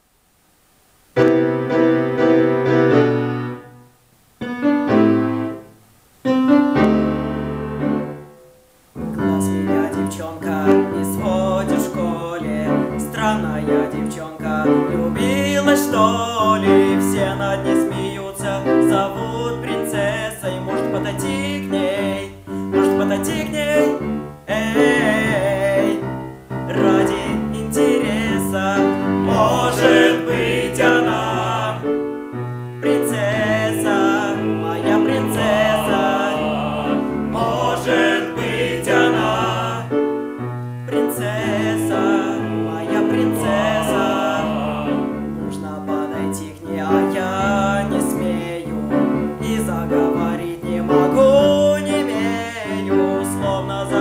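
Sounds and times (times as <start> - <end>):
grand piano playing: 1.2 - 54.0
male voices singing with vibrato: 9.2 - 32.2, 32.8 - 40.2, 40.9 - 54.0.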